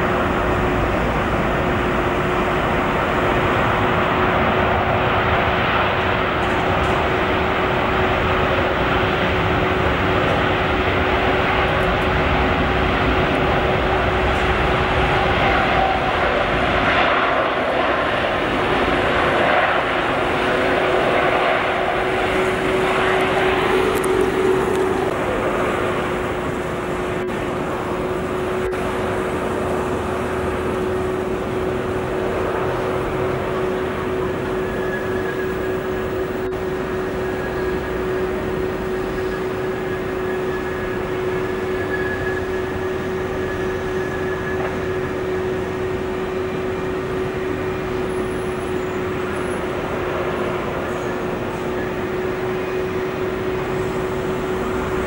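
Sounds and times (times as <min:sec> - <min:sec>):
jet engines roaring: 0:00.0 - 0:55.0
engine hum with held tone: 0:06.0 - 0:55.0.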